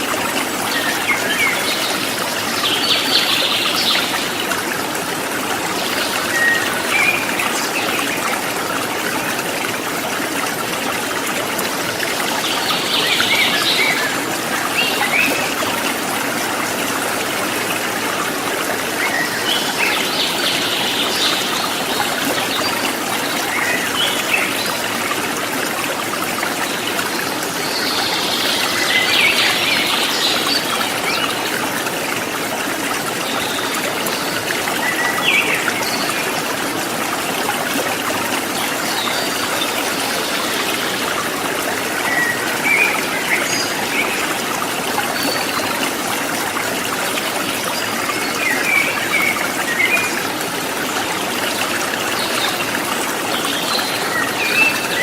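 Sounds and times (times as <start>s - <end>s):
river water over rocks: 0.0s - 55.0s.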